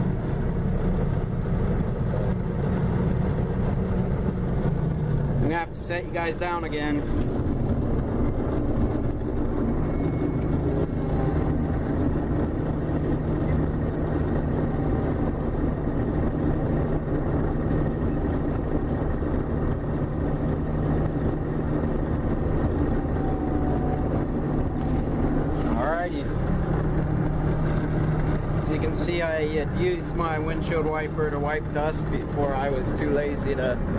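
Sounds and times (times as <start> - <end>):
combine engine drone from cab: 0.0 - 33.9.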